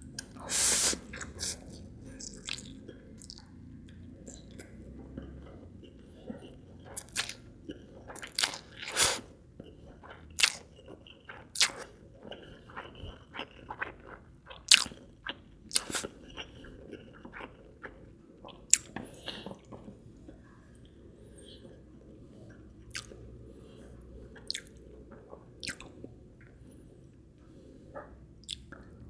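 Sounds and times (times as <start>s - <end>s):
person chewing noodles: 0.0s - 26.2s.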